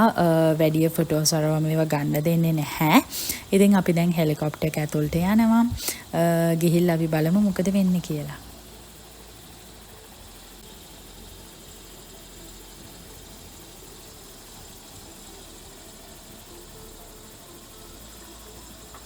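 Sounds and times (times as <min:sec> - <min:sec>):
faint hiss: 0:00.0 - 0:19.0
low hum: 0:00.0 - 0:19.0.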